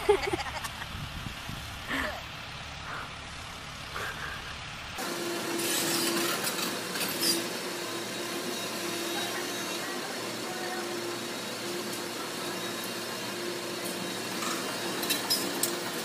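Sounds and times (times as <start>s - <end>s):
excavator engine and hydraulics hum: 0.0s - 16.0s.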